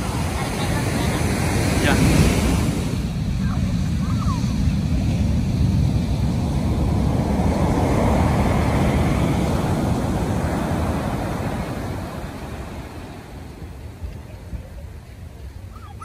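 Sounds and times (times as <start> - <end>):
large wave breaking: 0.0 - 16.0
whitewater rushing up beach: 0.0 - 16.0.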